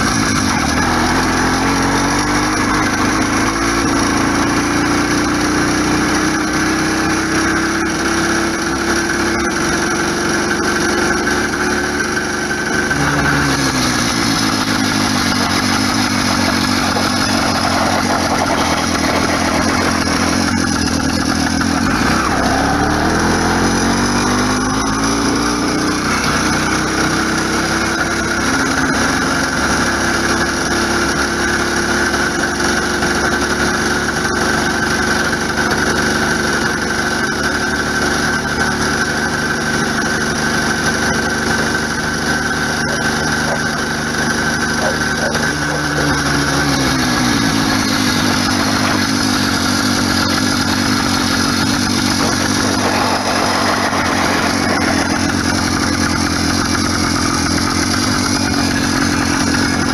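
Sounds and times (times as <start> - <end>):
two-stroke bicycle engine running: 0.0 - 59.9.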